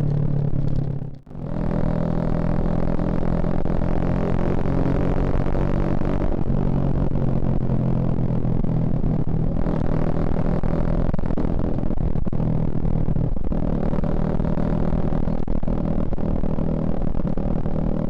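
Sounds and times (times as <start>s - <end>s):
motorcycle engine droning: 0.0s - 18.0s.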